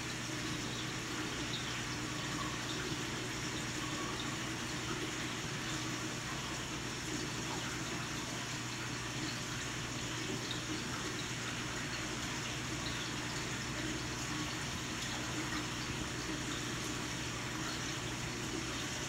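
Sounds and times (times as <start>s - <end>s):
aquarium filter water rushing: 0.0s - 19.0s.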